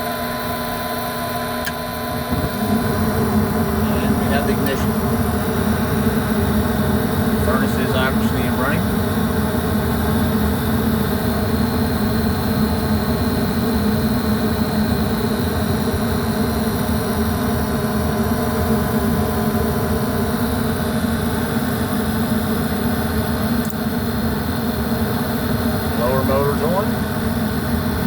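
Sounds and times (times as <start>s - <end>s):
furnace inducer motor noise: 0.0s - 28.0s.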